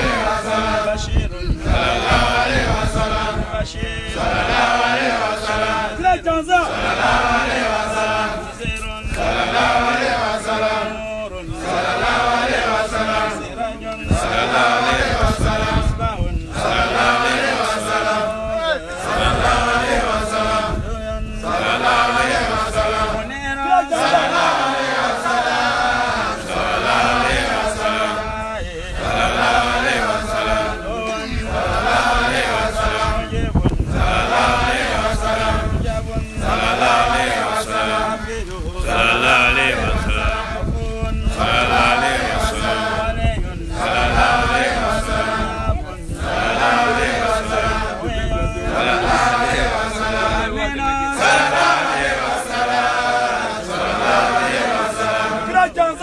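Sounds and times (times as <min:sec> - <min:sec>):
men chanting: 0:00.0 - 0:56.0.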